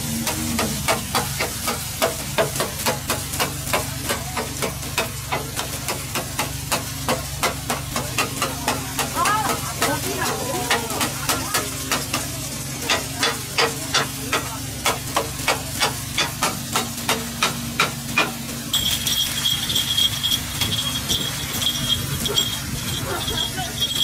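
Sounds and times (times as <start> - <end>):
high steady hiss: 0.0 - 24.0.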